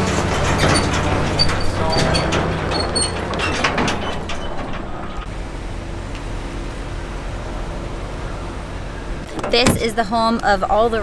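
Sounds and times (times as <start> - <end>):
trailer knocks and rattles: 0.0 - 6.0, 7.0 - 11.0
pickup truck engine hum: 0.0 - 11.0.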